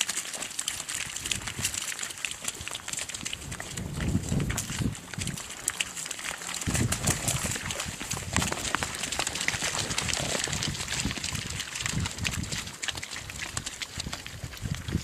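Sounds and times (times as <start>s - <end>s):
hooves splashing in mud: 0.0s - 15.0s.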